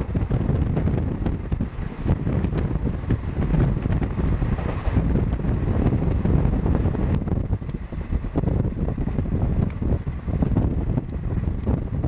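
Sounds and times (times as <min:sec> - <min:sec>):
train wheels rumbling on rails: 0:00.0 - 0:12.0
wind buffeting microphone: 0:00.0 - 0:12.0.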